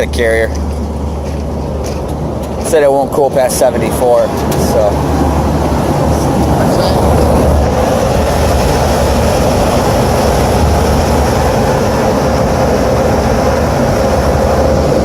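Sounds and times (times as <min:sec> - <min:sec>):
air conditioning unit humming: 0:00.0 - 0:15.0.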